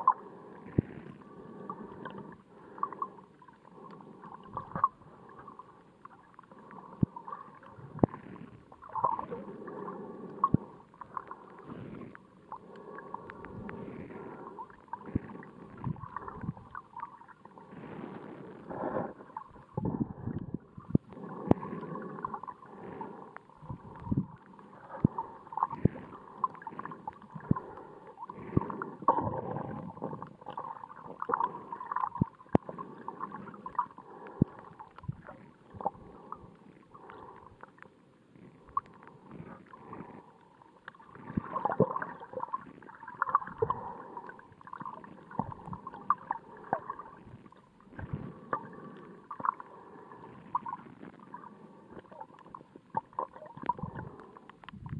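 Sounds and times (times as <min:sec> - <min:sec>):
muffled underwater water movement: 0:00.0 - 0:54.9.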